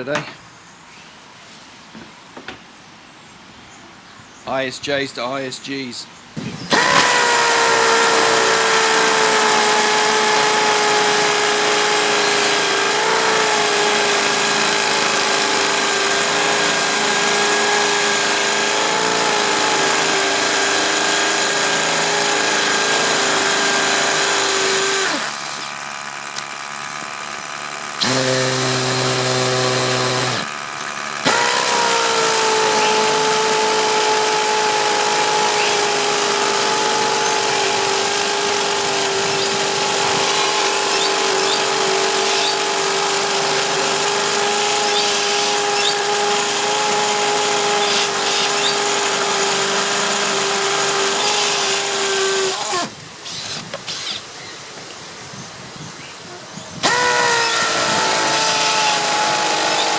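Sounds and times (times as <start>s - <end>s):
hammer drill boring into concrete: 6.7s - 54.2s, 56.8s - 59.9s.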